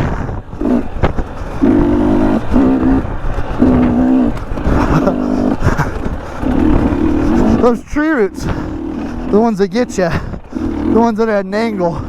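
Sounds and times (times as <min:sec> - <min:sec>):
steady low rumble: 0:00.0 - 0:11.2
two-stroke dirt bike engine: 0:00.0 - 0:12.0.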